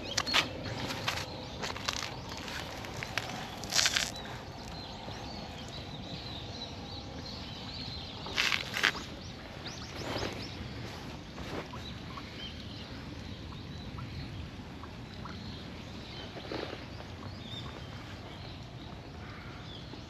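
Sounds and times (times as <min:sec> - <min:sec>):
outdoor background: 0:00.0 - 0:20.0.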